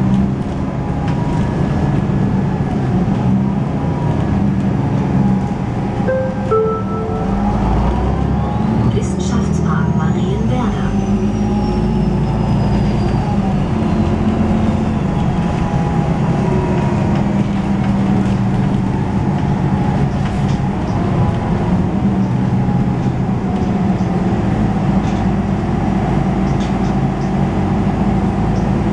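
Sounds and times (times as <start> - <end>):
bus diesel engine running: 0.0 - 28.9.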